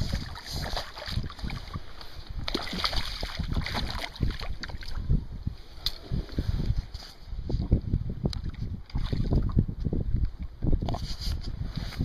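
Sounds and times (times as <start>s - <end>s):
water lapping and splashing: 0.0s - 6.7s, 7.5s - 11.4s
wind rumbling on microphone: 0.0s - 12.0s.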